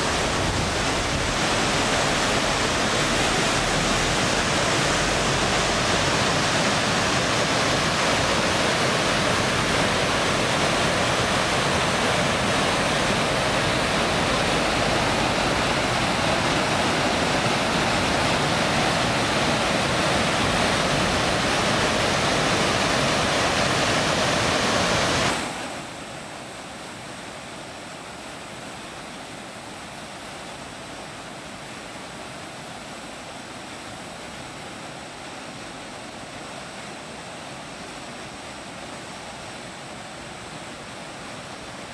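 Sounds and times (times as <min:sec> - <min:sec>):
waterfall rushing over rocks: 0:00.0 - 0:41.9.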